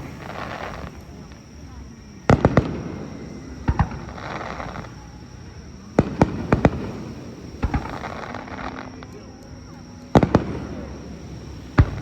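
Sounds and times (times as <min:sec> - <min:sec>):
fireworks bursting in booms: 0:00.0 - 0:12.0
fireworks crackling fizz: 0:00.0 - 0:12.0.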